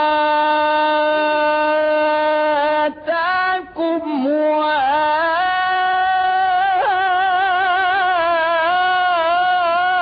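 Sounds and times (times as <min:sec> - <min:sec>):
person reciting melodically: 0:00.0 - 0:10.0.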